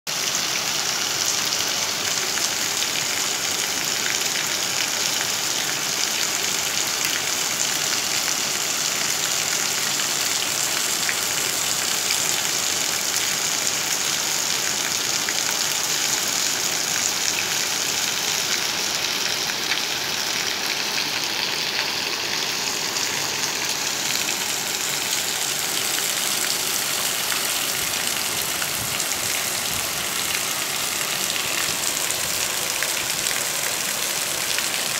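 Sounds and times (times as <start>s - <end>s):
heavy rain on water: 0.1s - 34.9s.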